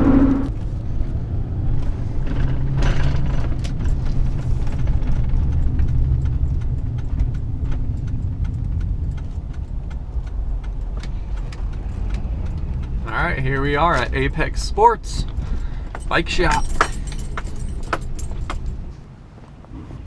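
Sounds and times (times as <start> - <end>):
road and engine drone: 0.0 - 20.0
light ticks and rattles: 1.7 - 14.5, 15.2 - 19.0.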